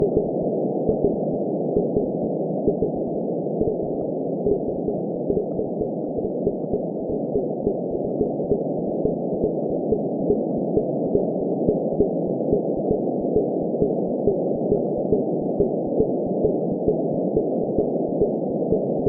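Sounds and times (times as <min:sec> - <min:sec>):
slow regular heartbeat: 0:00.0 - 0:00.3, 0:00.9 - 0:01.2, 0:01.8 - 0:02.1, 0:02.7 - 0:03.0, 0:03.6 - 0:18.9.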